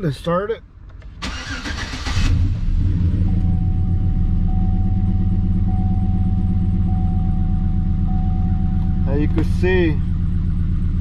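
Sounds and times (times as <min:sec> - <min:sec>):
car engine idling with misfire: 0:01.2 - 0:11.0.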